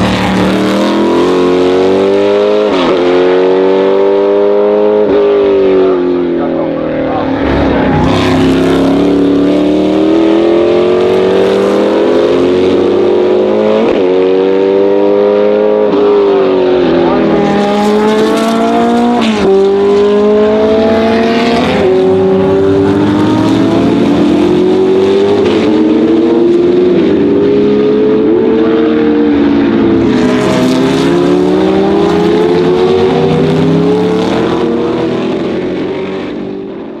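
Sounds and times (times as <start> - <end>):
racing car engine revving: 0.0 - 37.0.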